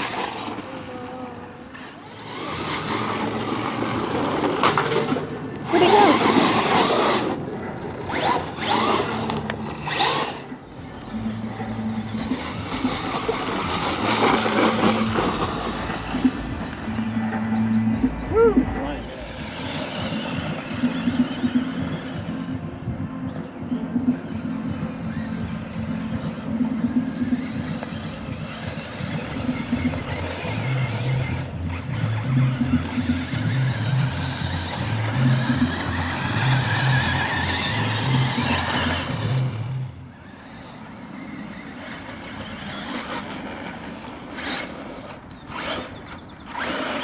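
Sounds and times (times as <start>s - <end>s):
electric motor whining: 0.0s - 47.0s
tyres spinning on dirt: 0.0s - 47.0s.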